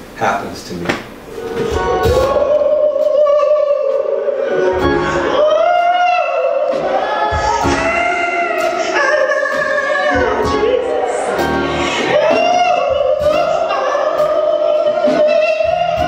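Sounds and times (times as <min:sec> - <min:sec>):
woman singing gospel solo: 0:01.3 - 0:16.0.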